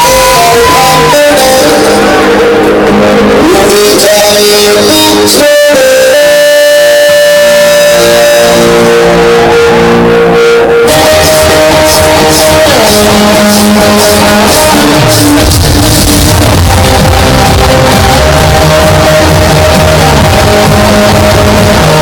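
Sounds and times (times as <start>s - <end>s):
rock band over loudspeakers: 0.0s - 22.0s.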